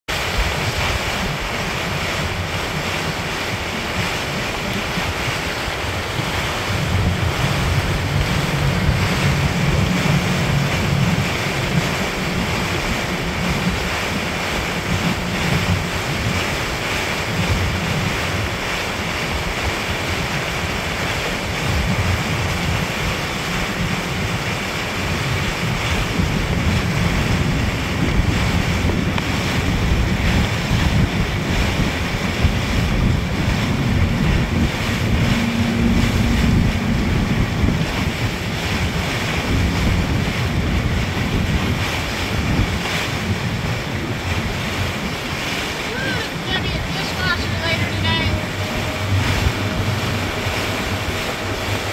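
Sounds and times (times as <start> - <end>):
motorboat rushing through water: 0.0 - 51.9
wind buffeting microphone: 0.1 - 51.9.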